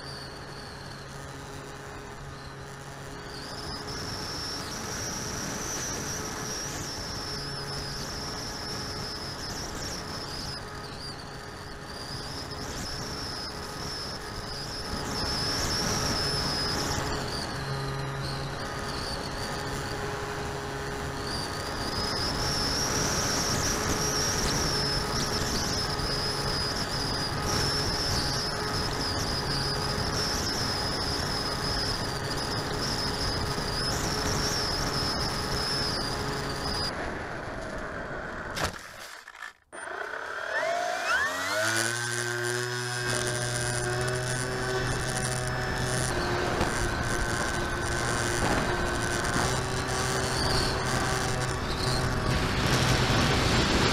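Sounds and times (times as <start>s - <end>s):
model plane motor whining: 0.0s - 53.9s.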